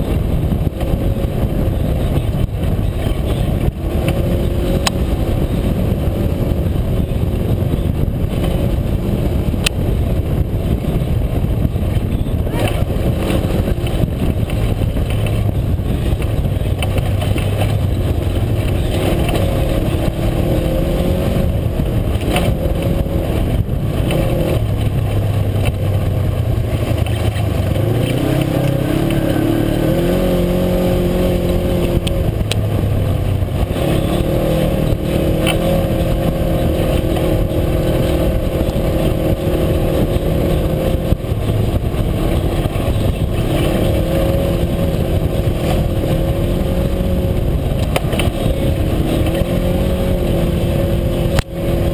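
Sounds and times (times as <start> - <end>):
utility vehicle engine running: 0.0 - 51.9.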